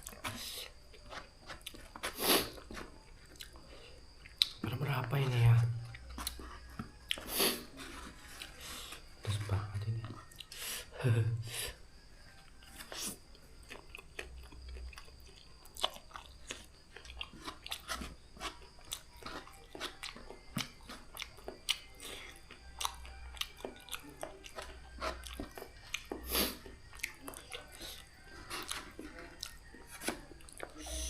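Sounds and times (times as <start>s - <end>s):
person chewing and slurping noodles: 0.0s - 4.6s, 6.0s - 9.2s, 12.7s - 31.0s.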